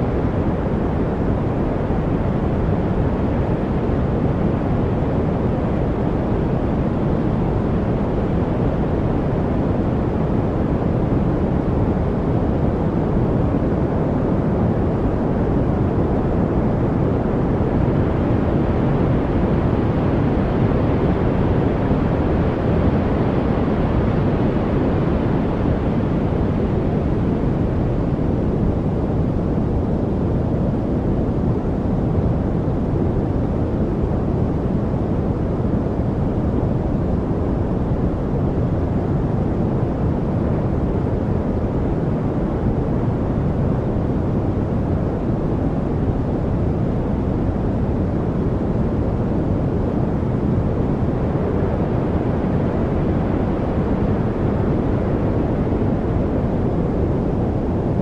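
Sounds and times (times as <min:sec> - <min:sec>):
deep white noise: 0:00.0 - 0:58.0.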